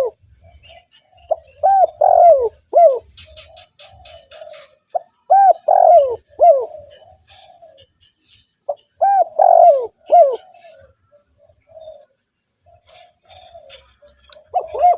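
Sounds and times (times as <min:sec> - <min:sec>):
dove cooing: 0:00.0 - 0:07.9, 0:08.7 - 0:14.9.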